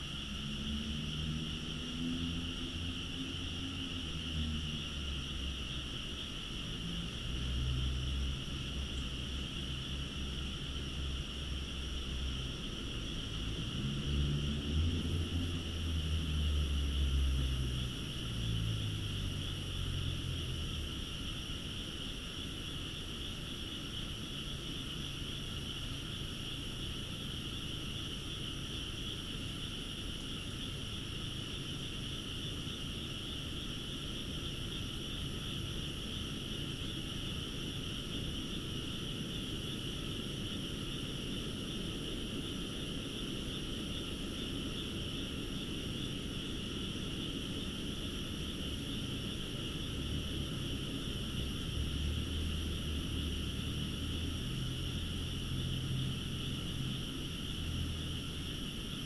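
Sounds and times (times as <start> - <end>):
frogs trilling: 0.0 - 59.0.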